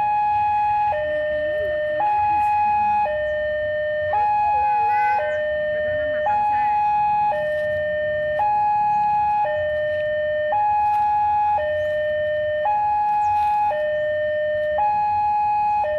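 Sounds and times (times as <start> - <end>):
electronic two-tone alarm: 0.0 - 15.9.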